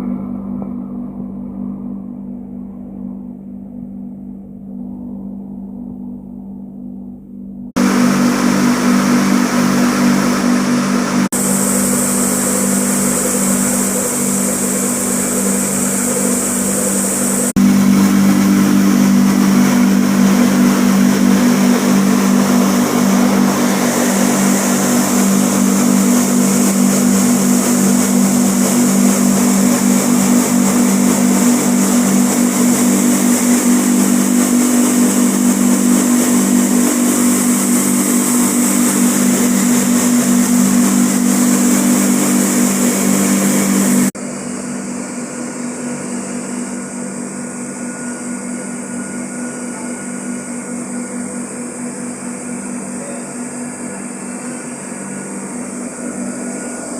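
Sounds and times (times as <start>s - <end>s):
mill machinery hum: 0.0s - 56.9s.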